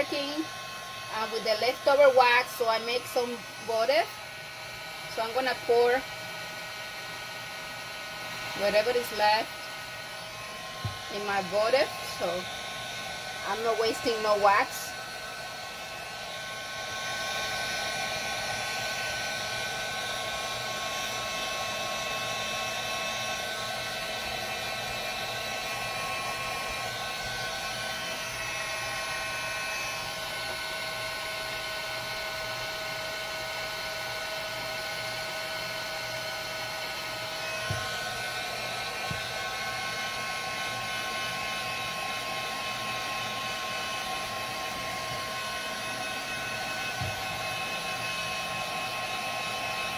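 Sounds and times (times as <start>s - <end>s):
heat gun fan blowing: 0.0s - 49.9s.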